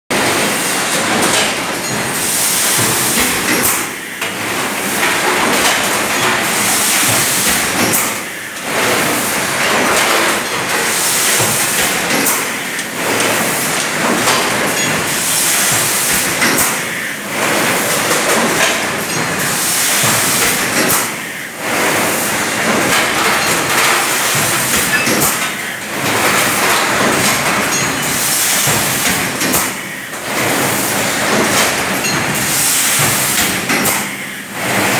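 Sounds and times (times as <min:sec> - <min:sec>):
bottling line machinery hissing: 0:00.1 - 0:34.9.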